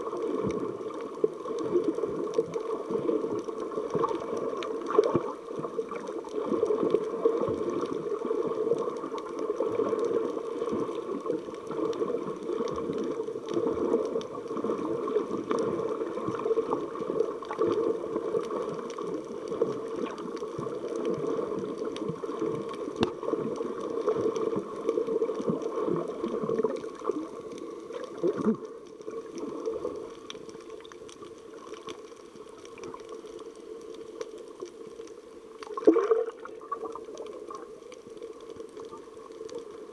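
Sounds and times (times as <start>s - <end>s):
underwater gurgling water: 0.0s - 39.9s
faint clicks: 0.1s - 39.9s.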